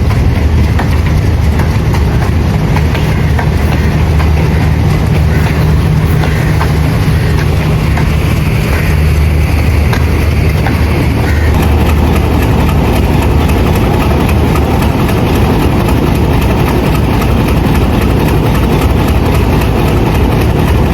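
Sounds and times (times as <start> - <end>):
diesel locomotive engine humming: 0.0 - 20.9.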